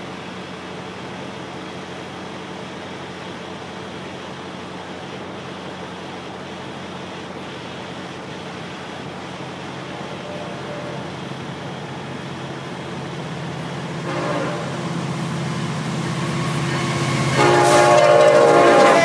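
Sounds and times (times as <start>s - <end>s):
distant locomotive drone: 0.0s - 19.0s.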